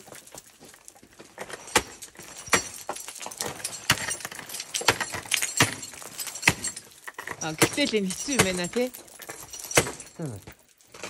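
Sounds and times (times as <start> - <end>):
metallic clinking and jingling: 0.0 - 11.0.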